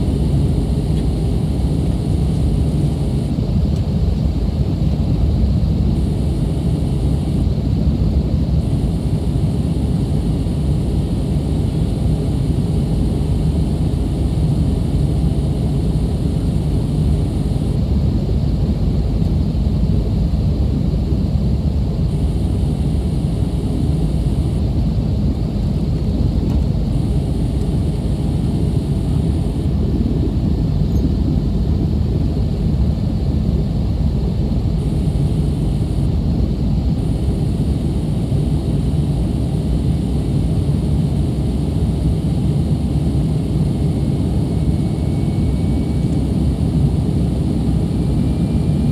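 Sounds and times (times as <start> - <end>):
jet engines and airflow roar: 0.0 - 48.9.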